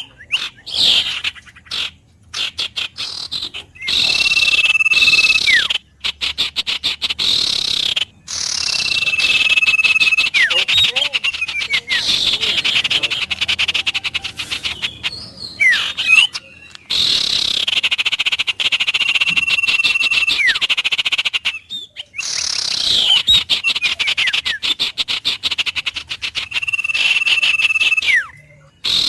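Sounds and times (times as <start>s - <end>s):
birds whistling: 0.0s - 29.0s
frogs calling in pulsing trill: 0.0s - 29.0s.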